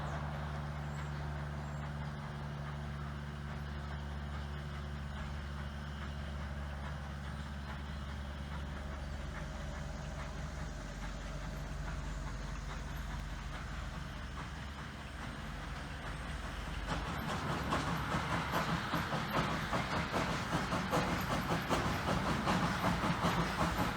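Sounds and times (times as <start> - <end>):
steam train rumbling: 0.0 - 23.9.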